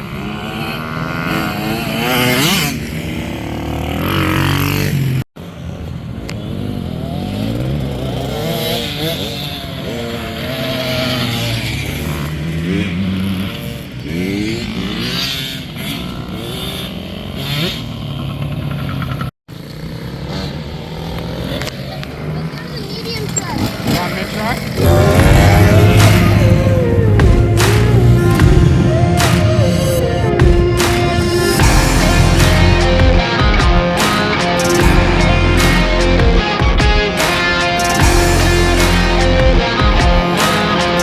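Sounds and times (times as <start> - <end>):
dirt bike engines revving: 0.0 - 41.0.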